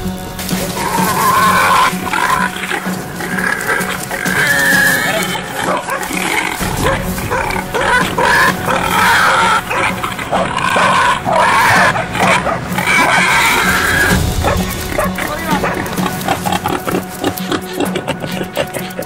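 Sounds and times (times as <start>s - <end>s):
wild boar squealing and grunting: 0.6s - 19.0s.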